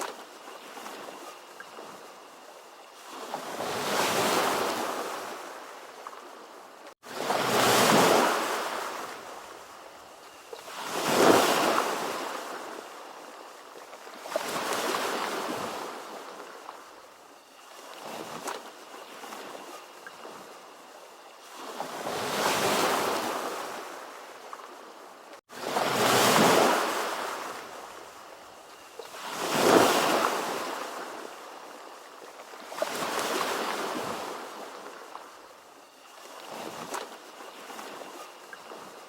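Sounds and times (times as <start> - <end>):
ocean waves washing on shore: 0.0 - 39.0.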